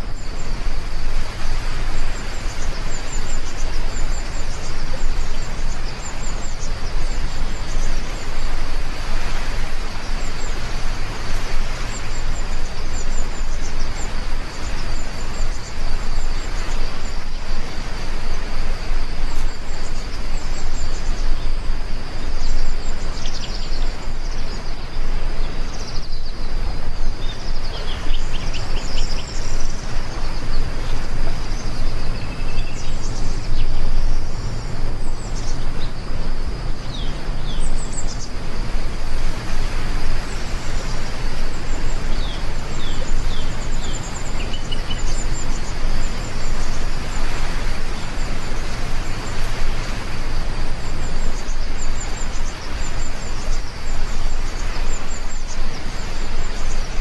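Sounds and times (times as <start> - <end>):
birds chirping: 0.0 - 57.0
heavy rain hissing: 0.0 - 57.0
low steady rumble: 0.0 - 57.0.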